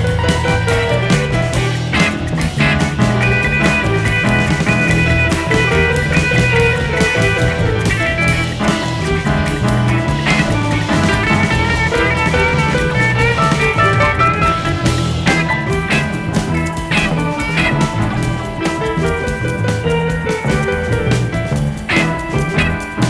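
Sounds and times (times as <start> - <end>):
rock music with guitar and drums: 0.0 - 23.0.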